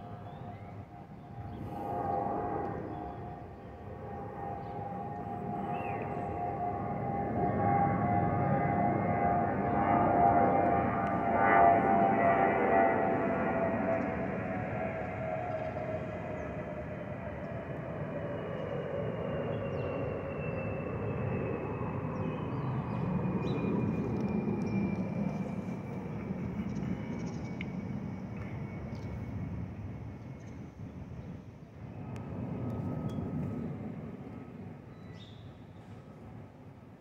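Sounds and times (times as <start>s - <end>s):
jet airliner climbing overhead: 0.0s - 37.0s.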